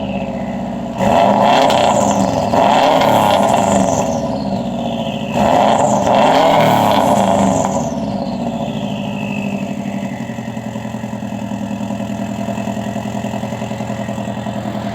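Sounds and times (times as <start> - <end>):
car exhaust revving and idling: 0.0 - 14.9.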